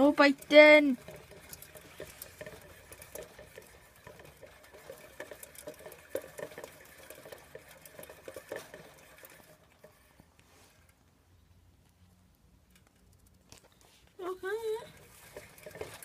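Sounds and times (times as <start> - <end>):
pattering and clicking in exercise wheel: 0.0 - 11.1, 11.8 - 16.0.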